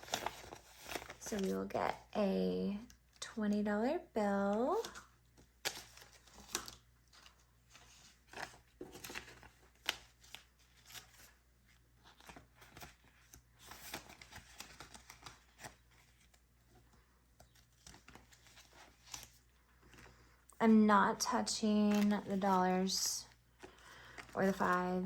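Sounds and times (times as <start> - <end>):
banknotes rustling: 0.0 - 2.1, 4.4 - 20.5, 21.2 - 25.0.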